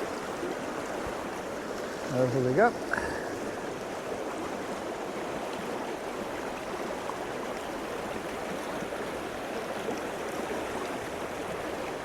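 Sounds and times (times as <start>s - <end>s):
stream babbling: 0.0s - 12.0s.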